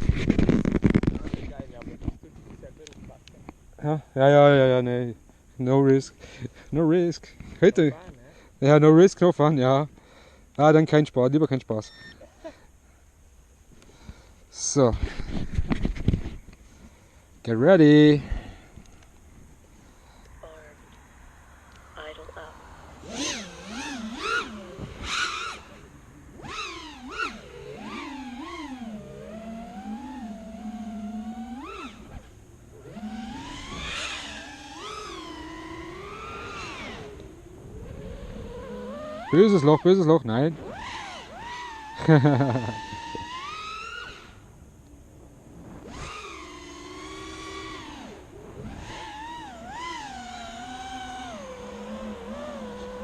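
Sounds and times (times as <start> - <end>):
quadcopter motors whining: 0.0 - 12.7, 13.7 - 53.0.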